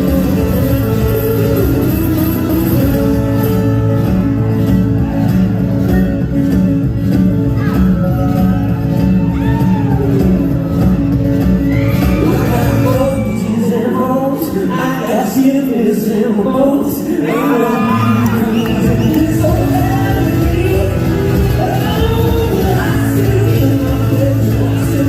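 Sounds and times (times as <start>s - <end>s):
live band instrumental with guitar: 0.0s - 25.0s.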